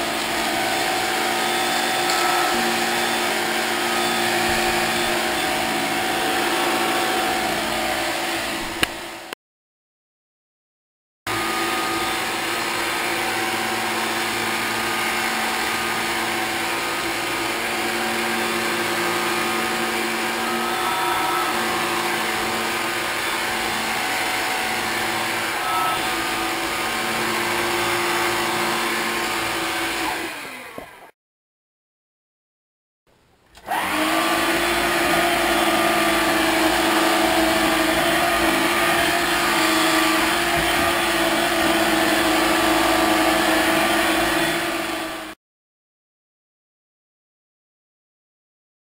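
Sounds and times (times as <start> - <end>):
vacuum cleaner motor whine: 0.0 - 9.3, 11.3 - 31.2, 33.6 - 45.4.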